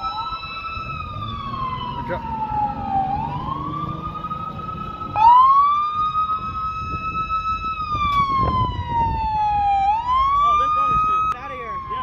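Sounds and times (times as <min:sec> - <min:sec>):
loud siren sweeping upward: 0:00.0 - 0:12.0
police sirens wailing: 0:00.0 - 0:12.0.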